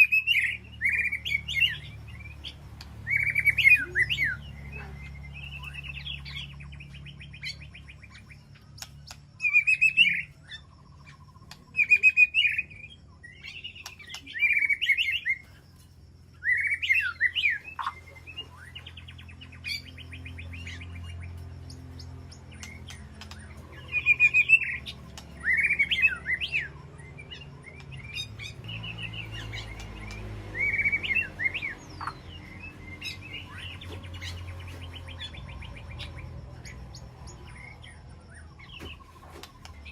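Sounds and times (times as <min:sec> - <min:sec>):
bird whistling song: 0:00.0 - 0:15.6, 0:16.3 - 0:39.9
bird trilled chatter: 0:00.0 - 0:39.9
steady low hum: 0:00.0 - 0:39.9.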